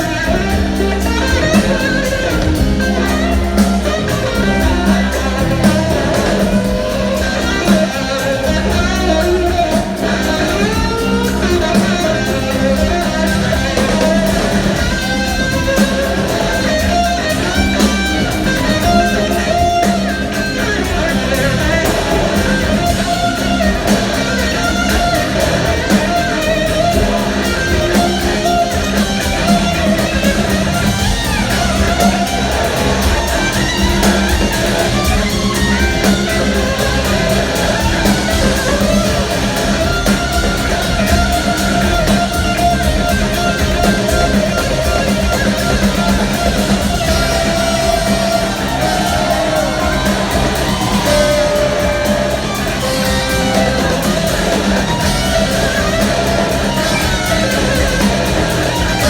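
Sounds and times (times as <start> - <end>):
blues-rock band playing: 0.0 - 59.0
electric guitar: 0.0 - 59.0.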